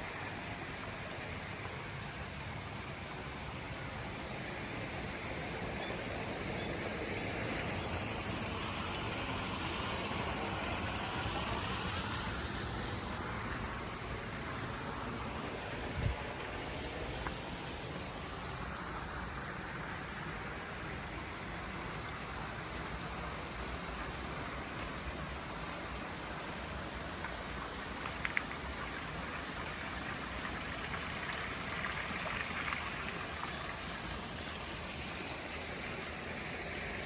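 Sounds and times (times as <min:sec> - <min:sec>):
steady rushing hiss: 0:00.0 - 0:37.0.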